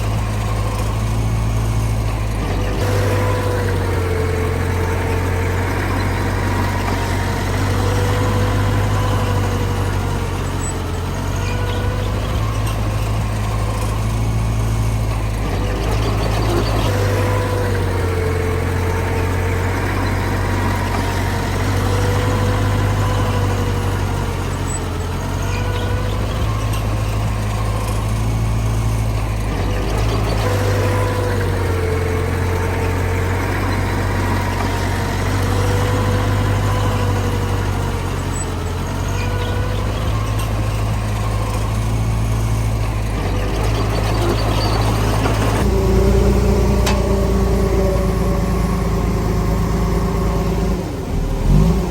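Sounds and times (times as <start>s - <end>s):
diesel machinery engine running: 0.0s - 51.9s.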